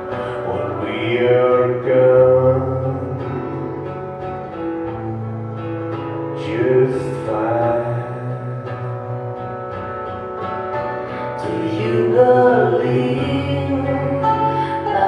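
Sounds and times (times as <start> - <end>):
acoustic guitar: 0.0 - 15.0
mandolin strumming and picking: 0.0 - 15.0.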